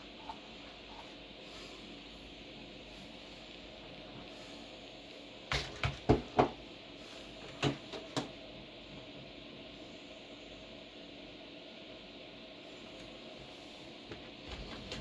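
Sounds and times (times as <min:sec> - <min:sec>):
computer fans humming: 0:00.0 - 0:15.0.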